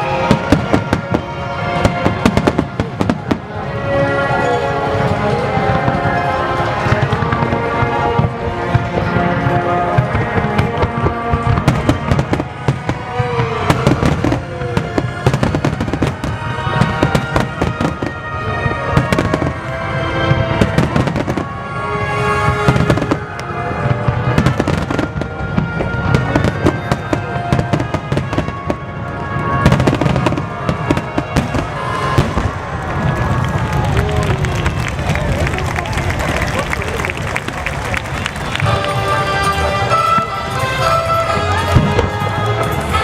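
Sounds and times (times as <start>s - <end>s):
music: 0.0s - 33.9s, 37.2s - 43.0s.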